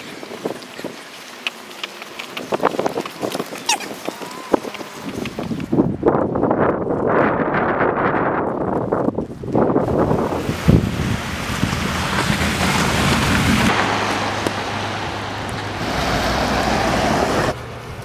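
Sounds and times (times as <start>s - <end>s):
wind buffeting microphone: 2.1s - 18.0s.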